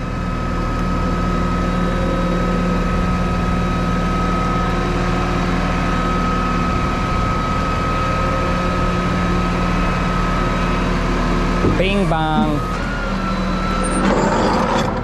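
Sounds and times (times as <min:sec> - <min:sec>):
truck engine idling: 0:00.0 - 0:14.0
thin high whine: 0:01.9 - 0:14.9.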